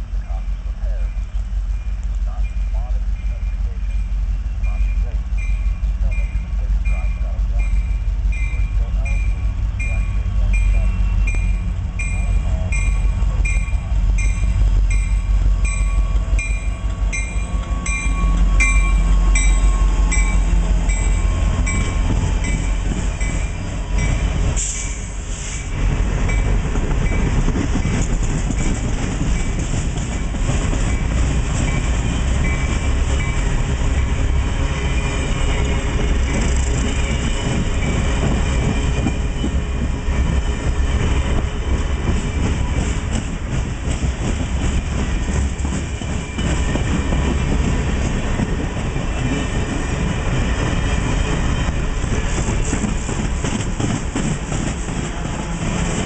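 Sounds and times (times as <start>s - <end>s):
diesel locomotive passing: 0.0s - 56.0s
train wheels clattering on rails: 0.0s - 56.0s
locomotive bell ringing: 0.1s - 43.5s, 44.7s - 53.4s.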